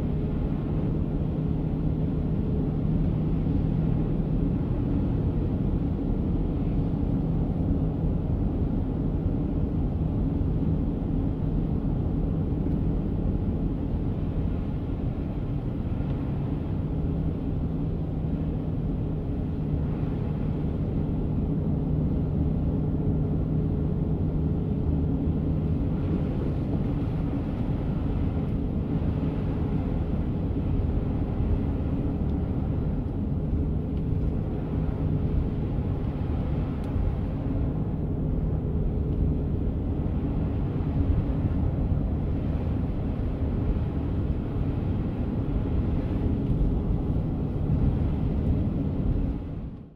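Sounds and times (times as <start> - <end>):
car road and engine drone: 0.0 - 49.9
steady hum: 0.0 - 49.9.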